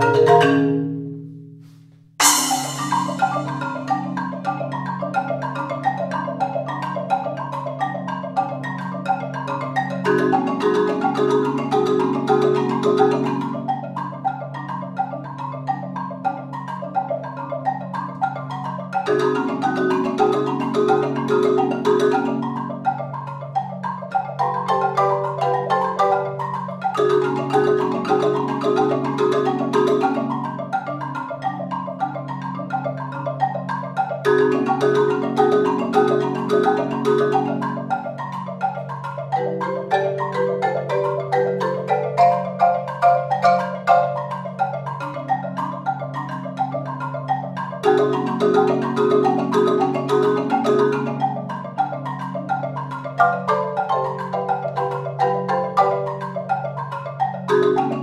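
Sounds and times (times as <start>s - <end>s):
marimbas playing fast pattern: 0.0s - 1.2s, 2.2s - 58.0s.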